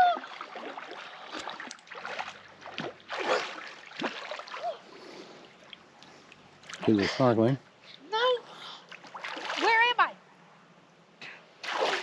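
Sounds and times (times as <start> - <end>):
water splashing and lapping: 0.0 - 7.8, 8.4 - 10.1, 11.6 - 12.0.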